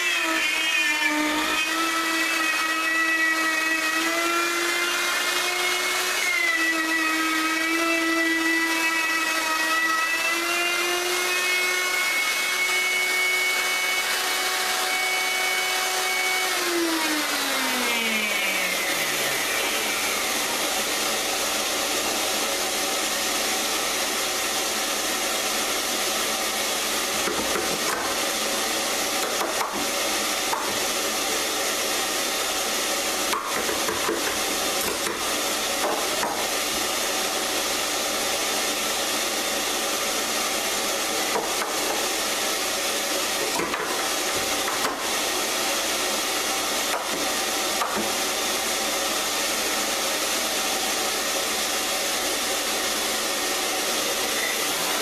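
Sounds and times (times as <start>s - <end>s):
electric power tool cutting wood: 0.0s - 55.0s.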